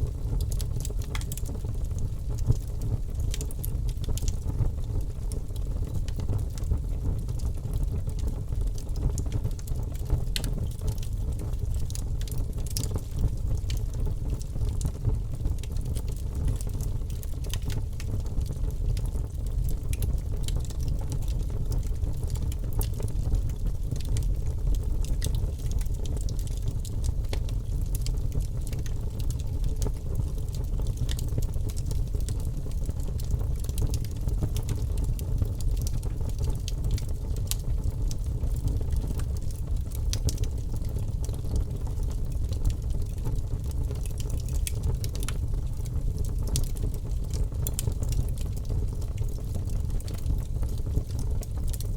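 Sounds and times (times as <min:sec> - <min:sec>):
fire crackling and popping: 0:00.0 - 0:51.9
low rumble of burning: 0:00.0 - 0:51.9.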